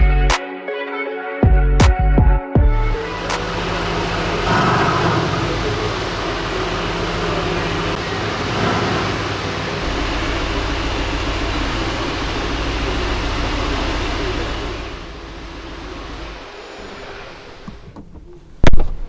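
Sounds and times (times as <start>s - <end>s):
car engine and road noise: 2.6s - 19.0s.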